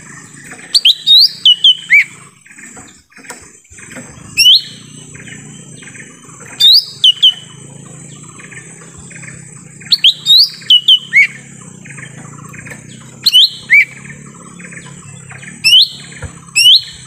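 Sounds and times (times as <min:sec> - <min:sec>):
bird whistling: 0:00.0 - 0:02.5, 0:03.9 - 0:17.0
steady high buzz: 0:00.0 - 0:17.0.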